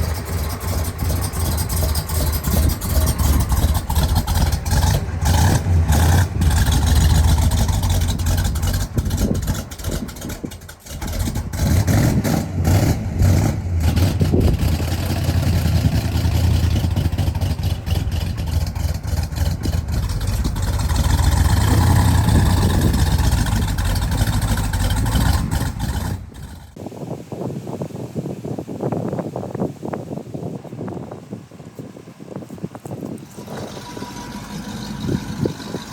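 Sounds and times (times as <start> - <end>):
road and wind noise: 0.0 - 35.9
vehicle engine rumbling: 0.0 - 35.9.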